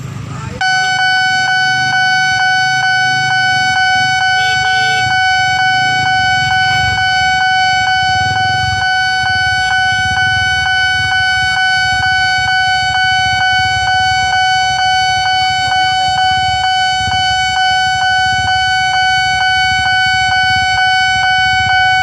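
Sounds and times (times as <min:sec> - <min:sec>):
low traffic rumble: 0:00.0 - 0:22.0
level crossing warning bell: 0:00.6 - 0:22.0.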